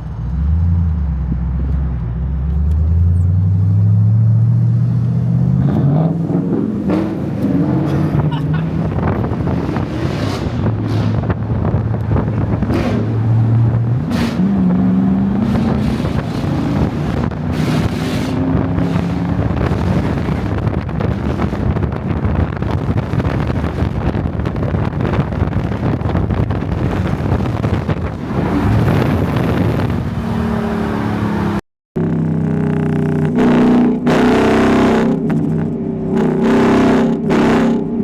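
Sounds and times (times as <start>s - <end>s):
wind and road noise: 0.0s - 38.0s
car engine revving: 0.2s - 38.0s.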